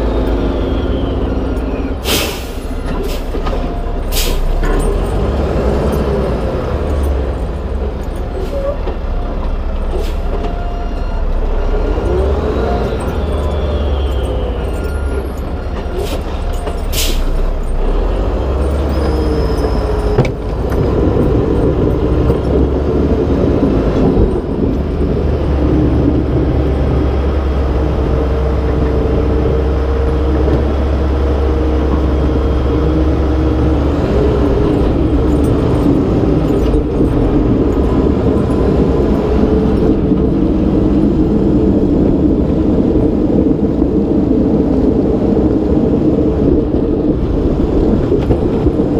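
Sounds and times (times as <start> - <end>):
truck diesel engine running: 0.0 - 48.9
wind rumbling on microphone: 2.6 - 48.9.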